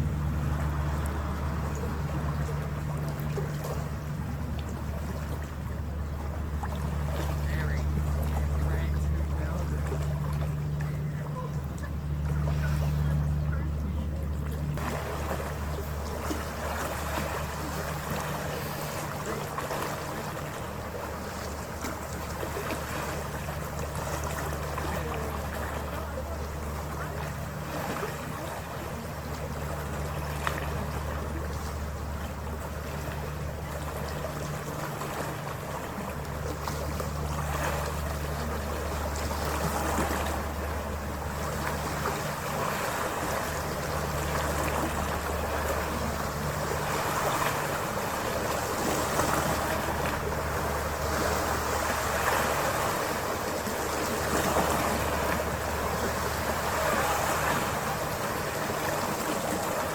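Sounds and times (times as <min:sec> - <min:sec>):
low engine drone: 0:00.0 - 0:59.9
water splashing along hull: 0:00.0 - 0:59.9.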